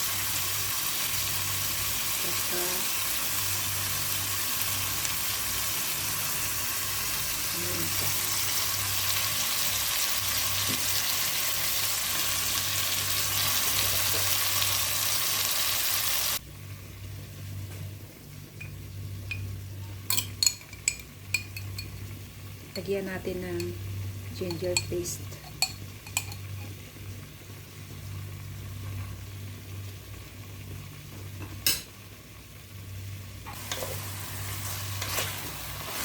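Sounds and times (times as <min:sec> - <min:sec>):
food sizzling in hot oil: 0:00.0 - 0:17.1, 0:18.5 - 0:36.0.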